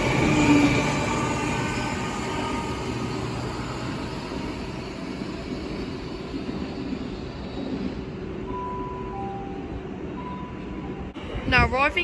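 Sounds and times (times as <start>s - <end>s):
train rumbling with rushing hiss: 0.0s - 12.0s.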